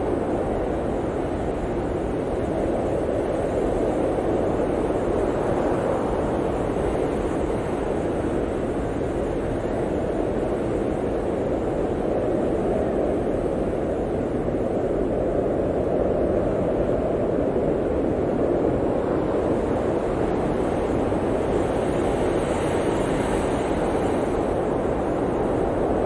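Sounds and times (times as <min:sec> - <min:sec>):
blizzard wind howling: 0:00.0 - 0:26.0.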